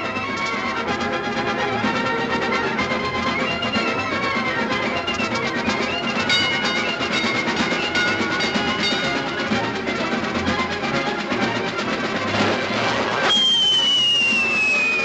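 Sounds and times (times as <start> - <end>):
violin and viola figures: 0.0 - 13.4
clarinet: 0.0 - 15.0
flute: 0.0 - 15.0
piccolo: 0.0 - 15.0
snare drum beat: 0.0 - 15.0
trumpet: 0.0 - 15.0.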